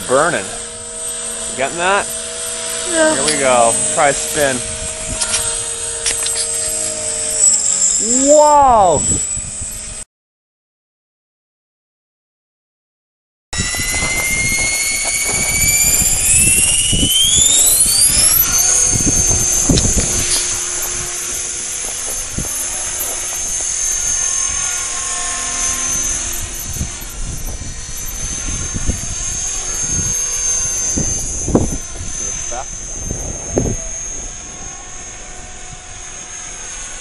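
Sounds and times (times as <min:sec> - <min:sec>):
rc helicopter motor whine: 0:00.0 - 0:10.0, 0:13.6 - 0:37.0.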